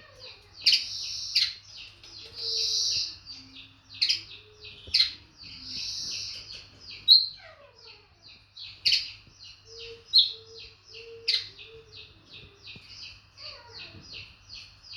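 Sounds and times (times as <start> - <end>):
bird chirping: 0.6 - 7.4, 8.3 - 14.9.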